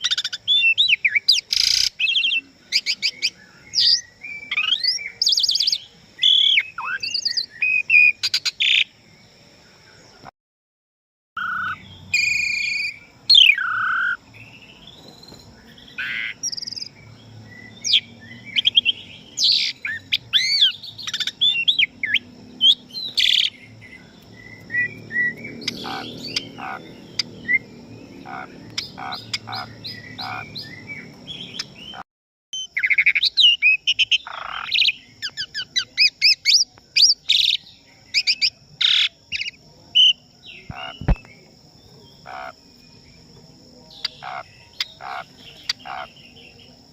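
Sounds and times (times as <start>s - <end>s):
starling singing: 0.0s - 9.0s, 11.4s - 32.0s, 32.6s - 46.9s.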